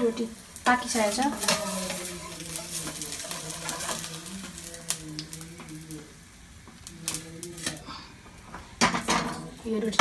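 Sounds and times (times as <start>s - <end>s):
flatbread sizzling in a pan: 0.0s - 10.0s.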